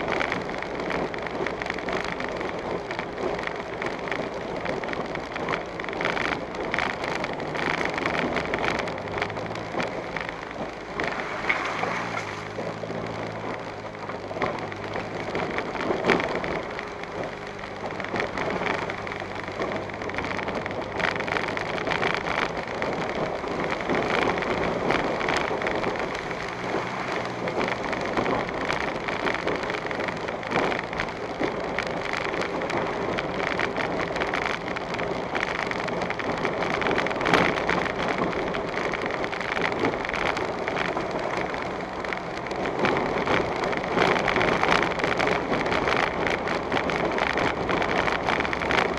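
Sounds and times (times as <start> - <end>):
car engine running low: 0.0 - 48.9
tyres on dirt and gravel: 0.0 - 48.9.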